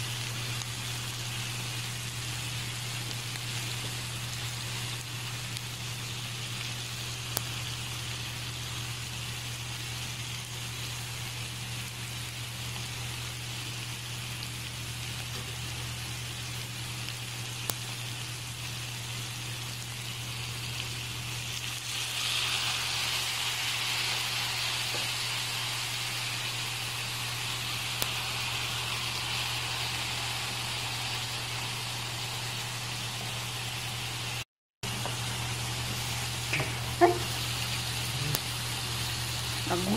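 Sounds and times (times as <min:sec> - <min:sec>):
meat sizzling in a frying pan: 0:00.0 - 0:39.9.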